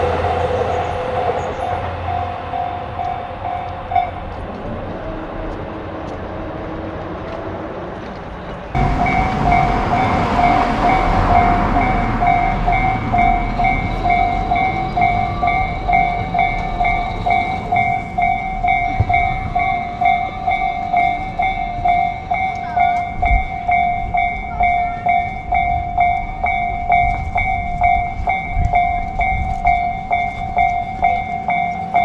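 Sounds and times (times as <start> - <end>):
railroad crossing alarm bell: 0.0 - 5.6, 8.7 - 32.0
train rumble: 0.0 - 32.0.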